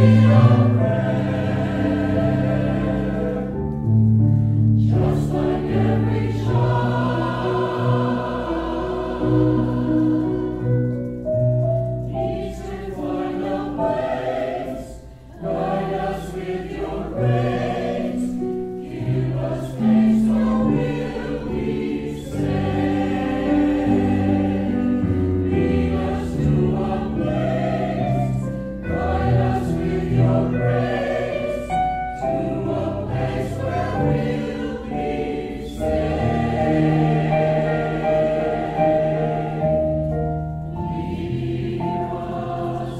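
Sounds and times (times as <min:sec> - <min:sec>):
mixed choir singing: 0:00.0 - 0:03.8, 0:04.8 - 0:11.4, 0:12.0 - 0:42.9
electric keyboard: 0:00.0 - 0:42.9.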